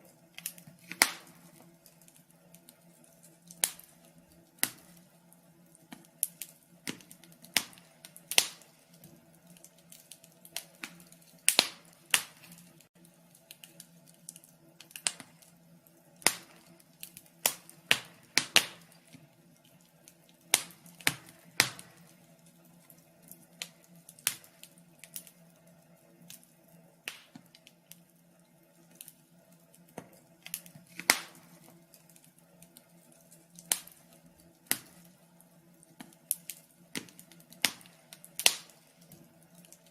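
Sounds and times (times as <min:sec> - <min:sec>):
faint steady hum: 0:00.0 - 0:39.9
fire crackling and popping: 0:00.0 - 0:39.9.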